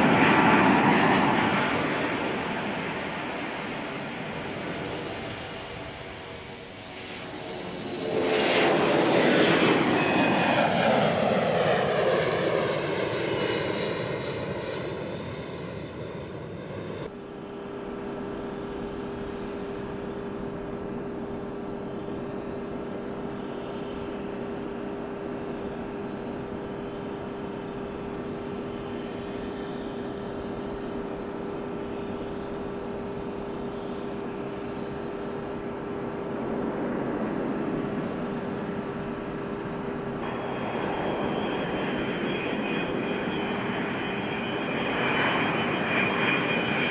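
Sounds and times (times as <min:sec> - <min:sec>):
jet aircraft climbing past: 0:00.0 - 0:46.9
steady jet whine: 0:00.0 - 0:46.9.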